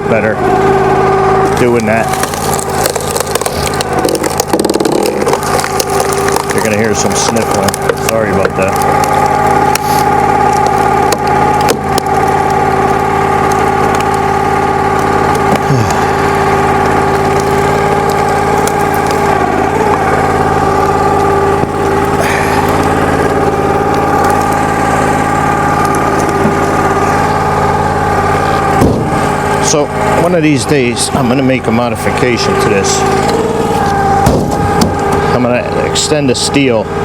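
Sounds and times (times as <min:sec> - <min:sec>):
small gas engine running: 0:00.0 - 0:37.0.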